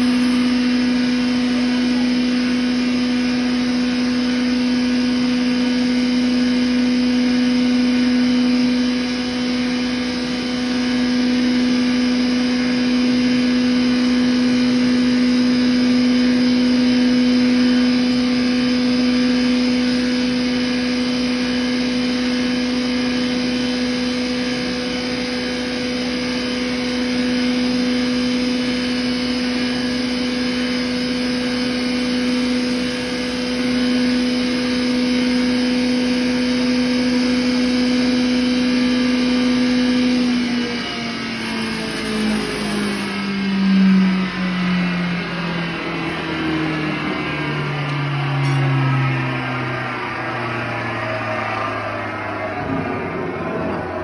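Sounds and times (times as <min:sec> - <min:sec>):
grinder and blower humming: 0:00.0 - 0:54.0.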